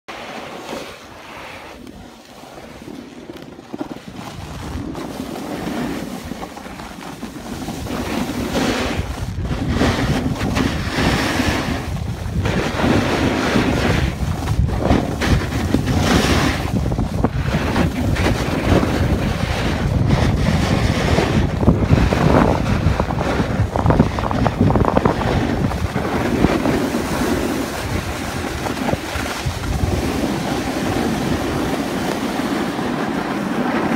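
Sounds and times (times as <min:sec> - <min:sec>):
snowboard scraping across snow: 0:00.1 - 0:33.9
wind buffeting microphone: 0:02.0 - 0:33.9.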